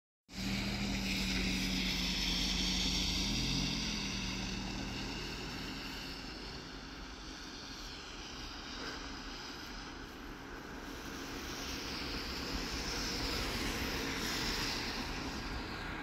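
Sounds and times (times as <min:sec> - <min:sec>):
distant locomotive engine drone: 0:00.3 - 0:16.0.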